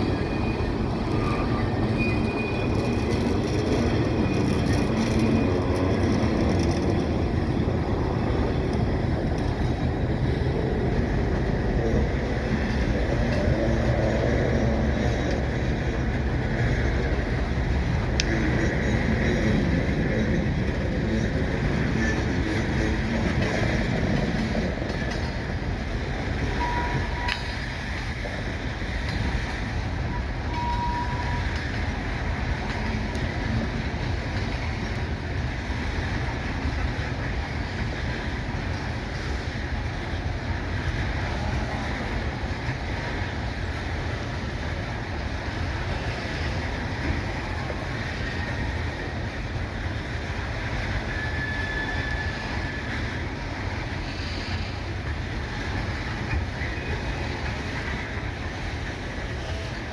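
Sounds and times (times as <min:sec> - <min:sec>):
train rumbling past on rails: 0:00.0 - 0:59.9.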